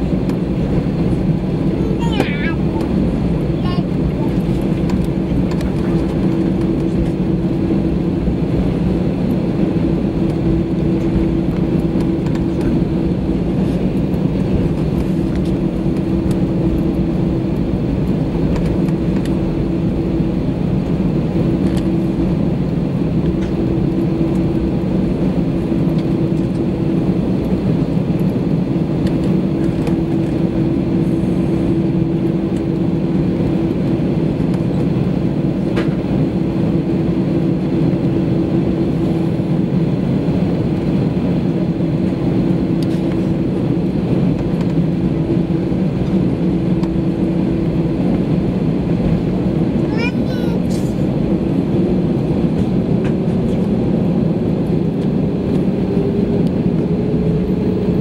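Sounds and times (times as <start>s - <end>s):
jet engines droning in cabin: 0.0s - 58.0s.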